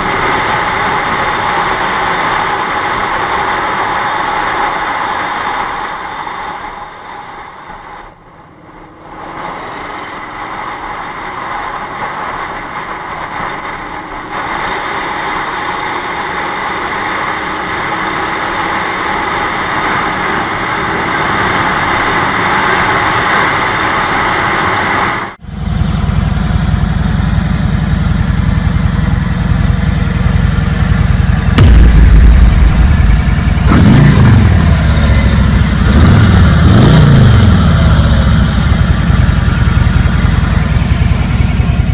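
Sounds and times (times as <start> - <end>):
motorcycle engine at speed: 0.0 - 41.9
motorcycle idling and revving: 0.0 - 41.9
wind and road noise: 0.0 - 41.9.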